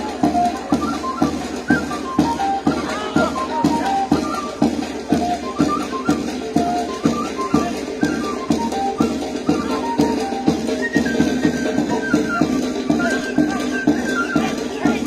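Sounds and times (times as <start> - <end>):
drum beating: 0.0 - 15.0
folk music: 0.0 - 15.0.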